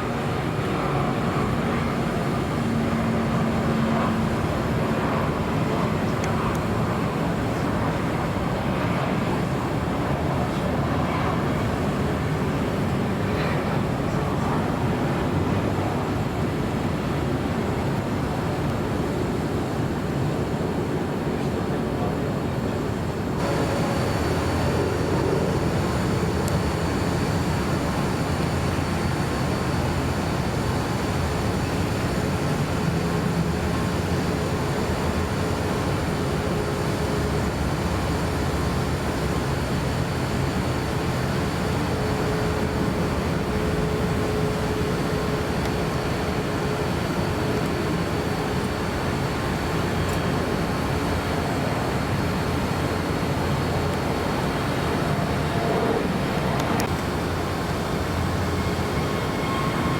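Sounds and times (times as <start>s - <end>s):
distant jet engines running: 0.0s - 59.9s.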